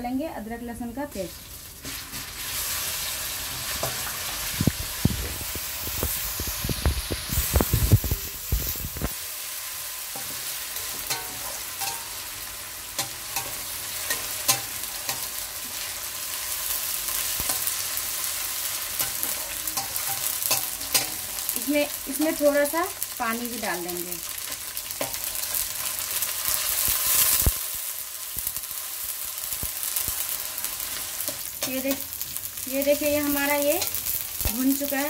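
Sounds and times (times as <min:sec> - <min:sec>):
onions sizzling in hot oil: 0:00.2 - 0:35.0.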